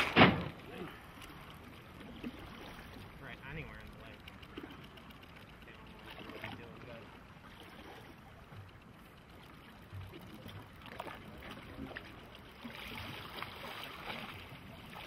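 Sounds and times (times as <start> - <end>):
faint lake water lapping: 0.0 - 15.0.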